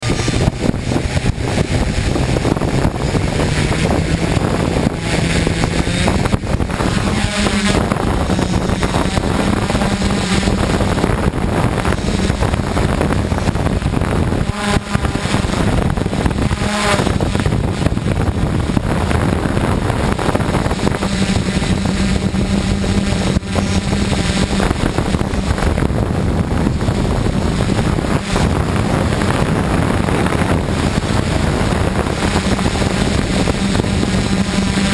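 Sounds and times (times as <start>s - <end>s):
drone motors humming: 0.0s - 34.9s
wind buffeting microphone: 0.0s - 34.9s.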